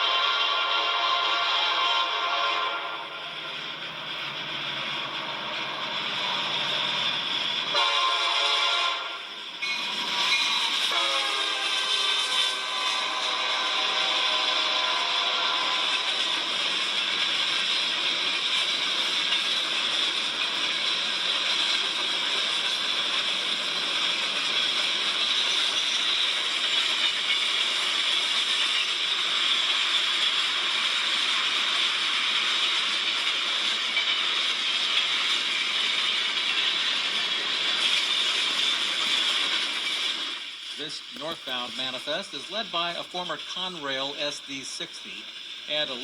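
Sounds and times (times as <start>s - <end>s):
freight train rolling by: 0.0s - 46.0s
steel wheels clicking on tracks: 0.0s - 46.0s.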